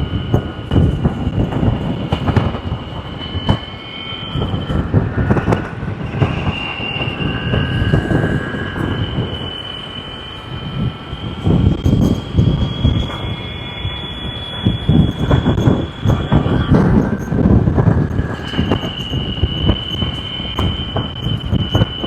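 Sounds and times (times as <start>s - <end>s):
electric motorcycle motor whine: 0.0s - 22.0s.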